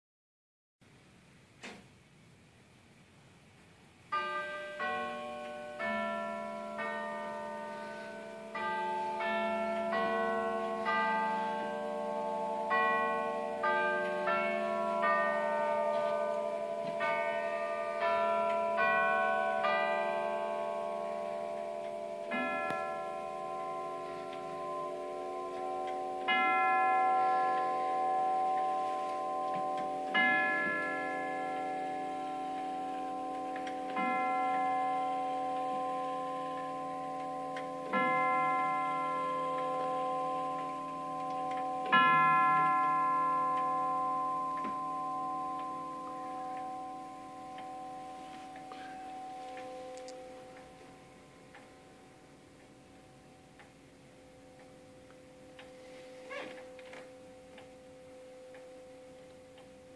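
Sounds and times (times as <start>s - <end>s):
grandfather clock chiming bells: 4.1s - 59.9s.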